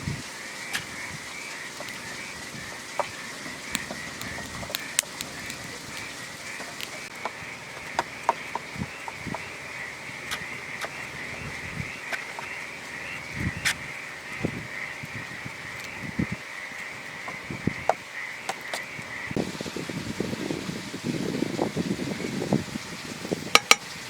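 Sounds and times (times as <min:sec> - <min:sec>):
high-pitched wildlife chorus trilling: 0:00.0 - 0:24.0.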